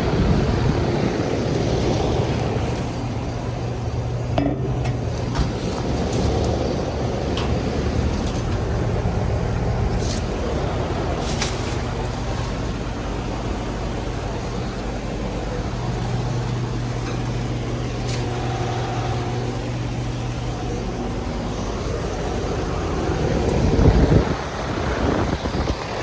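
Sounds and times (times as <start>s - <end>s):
wind buffeting microphone: 0.0s - 16.8s, 21.0s - 26.0s
air conditioner fan noise: 0.0s - 26.0s
compressor hum: 0.0s - 26.0s.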